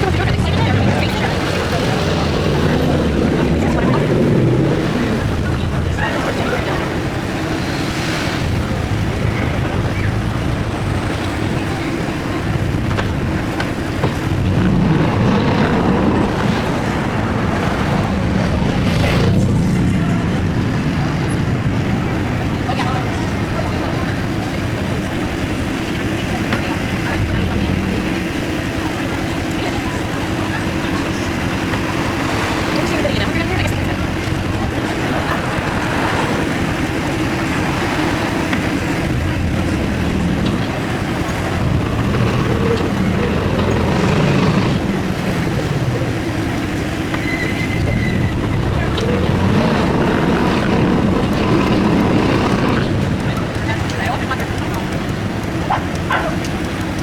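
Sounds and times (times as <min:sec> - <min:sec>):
wind rushing: 0:00.0 - 0:24.3, 0:31.4 - 0:53.8
car engine driving: 0:00.0 - 0:57.0
road noise: 0:00.0 - 0:57.0.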